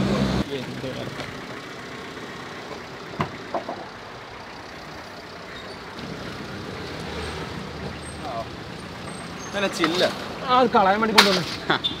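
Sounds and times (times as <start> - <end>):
engine and road hum: 0.0 - 12.0.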